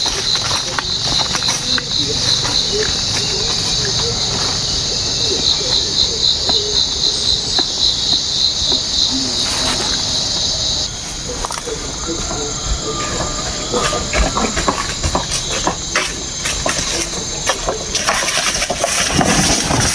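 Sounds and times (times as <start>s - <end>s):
high insect drone: 0.0s - 19.9s
pulsing insect chorus: 0.0s - 19.9s.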